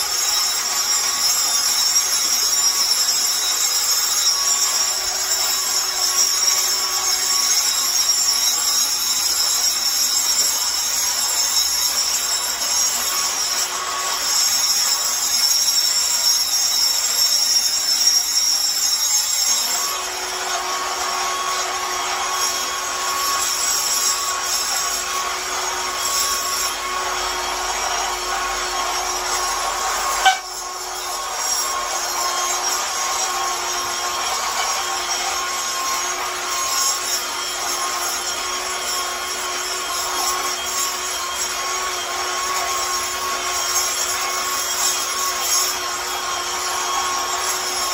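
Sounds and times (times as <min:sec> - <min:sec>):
angle grinder on concrete: 0:00.0 - 0:47.9.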